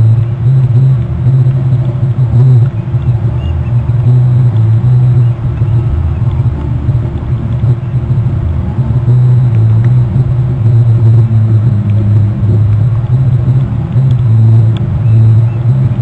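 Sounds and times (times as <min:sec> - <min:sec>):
low rumble with hum: 0:00.0 - 0:16.0.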